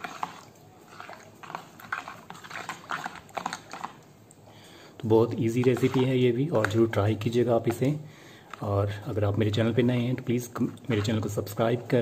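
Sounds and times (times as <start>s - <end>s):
spoon stirring watery mix: 0.0s - 12.0s.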